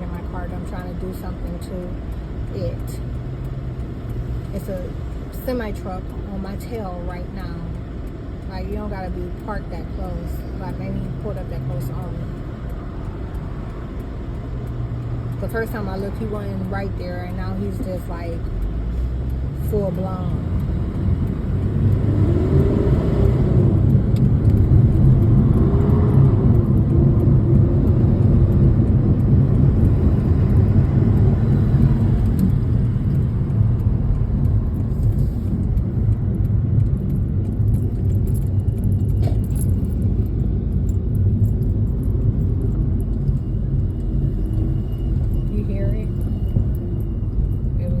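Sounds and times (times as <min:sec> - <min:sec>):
car engine rumble in cabin: 0:00.0 - 0:48.0.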